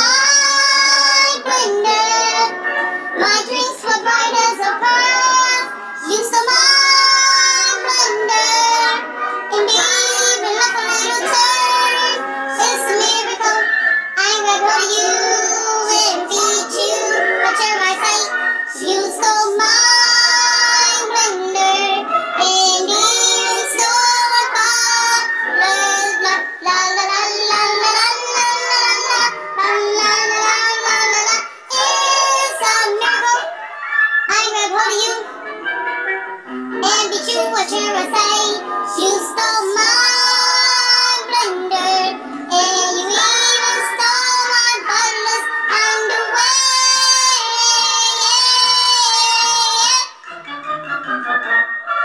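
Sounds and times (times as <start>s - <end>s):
high-pitched singing: 0.0s - 35.4s, 36.8s - 52.0s
music: 0.0s - 52.0s.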